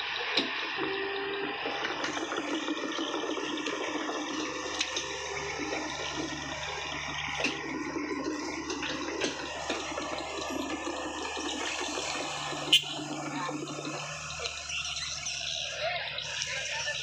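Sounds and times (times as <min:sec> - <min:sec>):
heavy machinery engine hum: 0:00.0 - 0:17.0.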